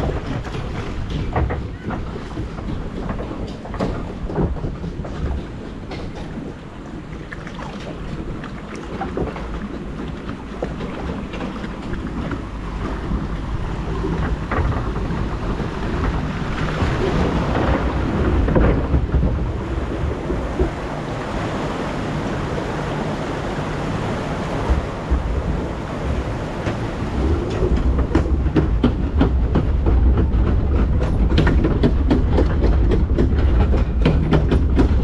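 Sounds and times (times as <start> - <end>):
water rushing and splashing: 0.0 - 35.0
wind buffeting microphone: 0.0 - 35.0.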